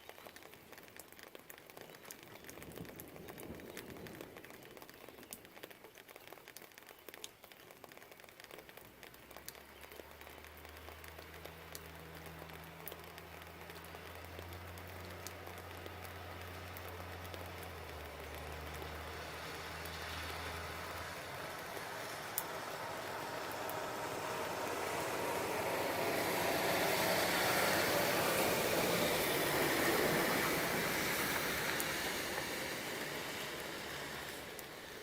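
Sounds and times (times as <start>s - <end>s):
distant traffic rumble: 0.0s - 6.2s, 6.8s - 35.0s
light rain with drips: 0.0s - 35.0s.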